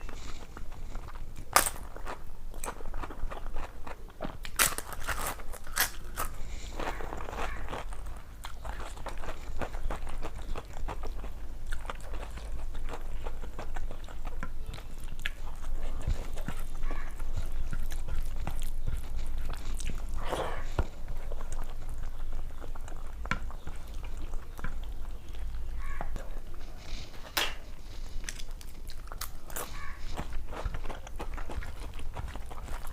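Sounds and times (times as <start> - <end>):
chewing with crunches: 0.0 - 32.9.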